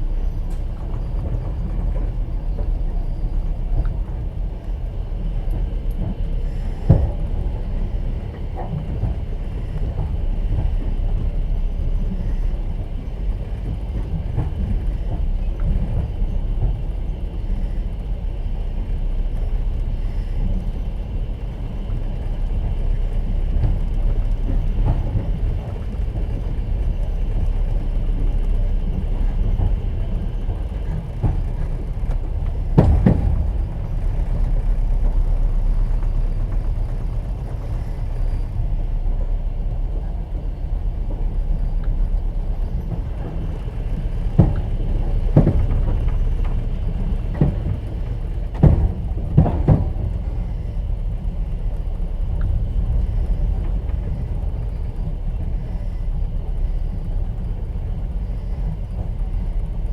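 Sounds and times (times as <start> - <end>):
train rumbling: 0.0 - 59.9
wheels clacking over rail joints: 0.0 - 59.9.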